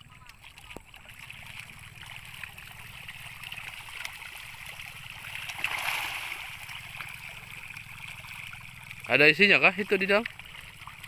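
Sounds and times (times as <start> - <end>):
fish splashing at water surface: 0.0 - 11.0.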